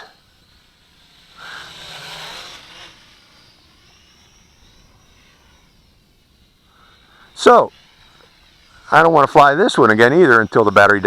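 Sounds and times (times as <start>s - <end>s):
quadcopter propellers whining: 0.0s - 11.0s.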